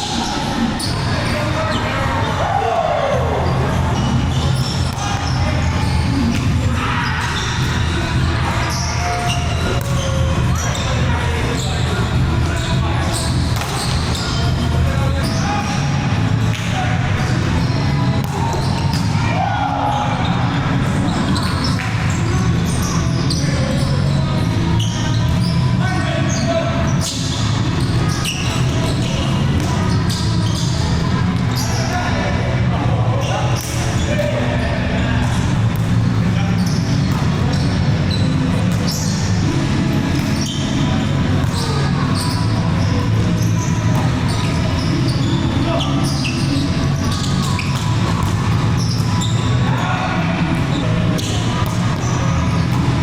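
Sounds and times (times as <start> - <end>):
players' voices: 0.0 - 53.0.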